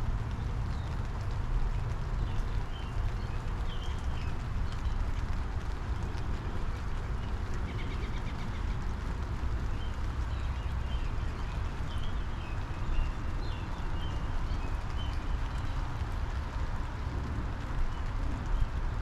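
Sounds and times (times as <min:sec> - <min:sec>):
rain shower on a bush: 0:00.0 - 0:19.0.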